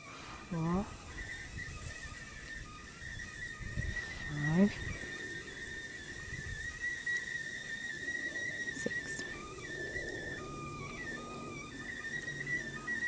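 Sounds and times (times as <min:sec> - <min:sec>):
high whistling tone: 0:00.0 - 0:13.0.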